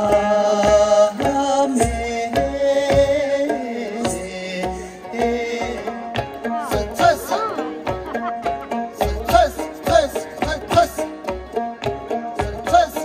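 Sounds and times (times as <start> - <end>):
song with steady drum beat: 0.0 - 13.0.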